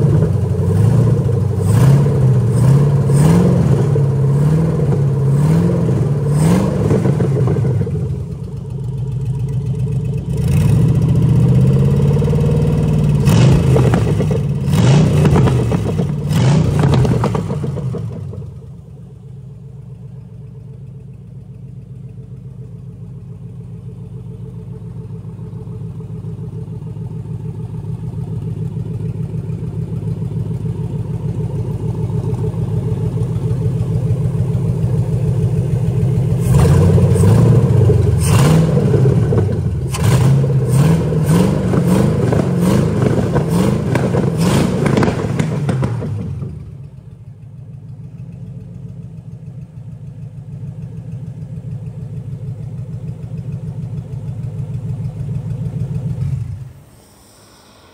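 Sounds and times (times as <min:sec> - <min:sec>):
car engine idling and revving: 0:00.0 - 0:57.9.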